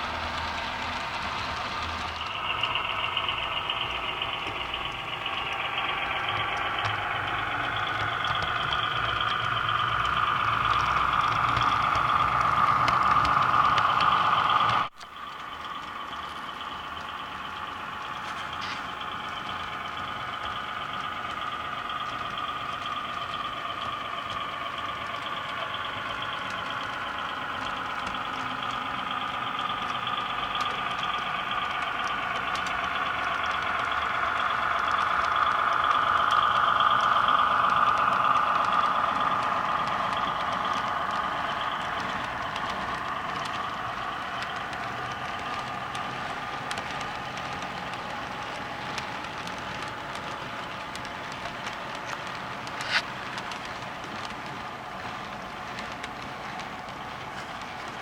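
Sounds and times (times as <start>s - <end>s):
model train humming: 0.0s - 58.0s
wheels clicking on track: 0.0s - 58.0s
light ticking: 0.2s - 58.0s.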